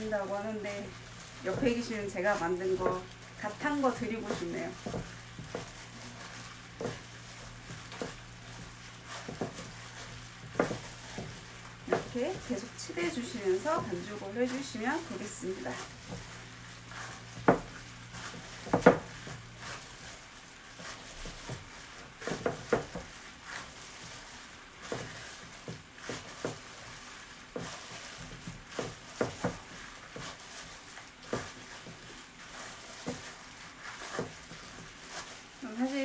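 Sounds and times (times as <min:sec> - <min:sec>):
hands kneading dough in glass bowl: 0:00.0 - 0:36.0.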